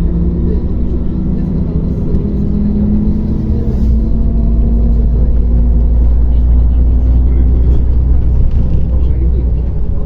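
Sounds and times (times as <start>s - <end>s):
bus engine drone and rumble: 0.0s - 10.0s.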